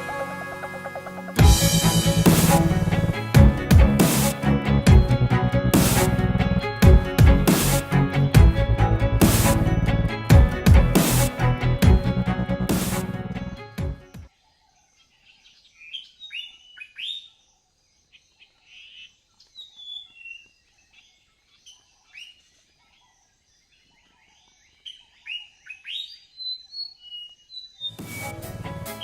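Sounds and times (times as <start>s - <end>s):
birds chirping: 1.0s - 29.0s.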